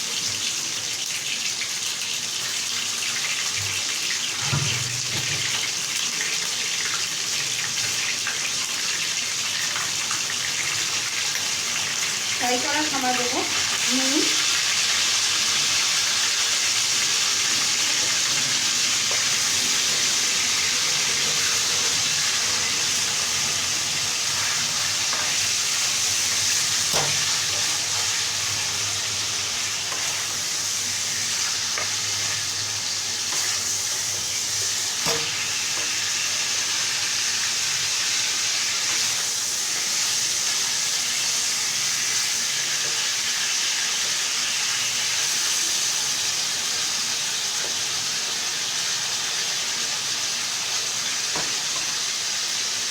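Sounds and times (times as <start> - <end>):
chicken sizzling in oil: 0.0 - 52.9.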